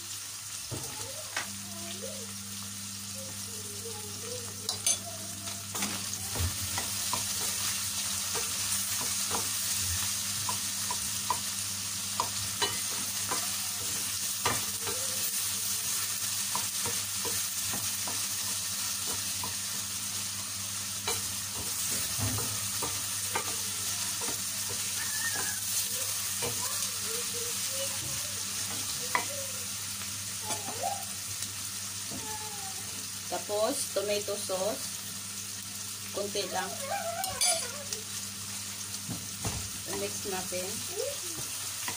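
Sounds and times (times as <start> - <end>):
food sizzling in a pan: 0.0 - 41.9.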